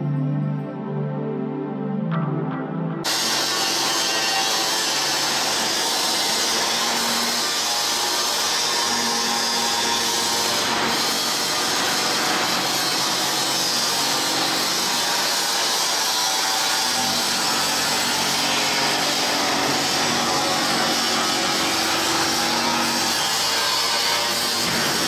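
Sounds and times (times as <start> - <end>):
grinding hiss: 3.1 - 25.0.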